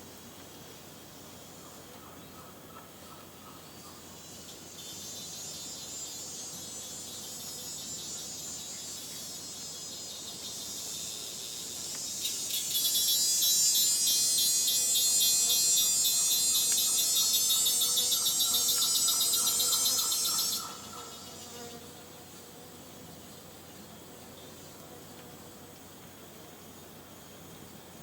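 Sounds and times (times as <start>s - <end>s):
insect pulsing buzz: 0.0s - 28.0s
insects humming: 0.0s - 28.0s.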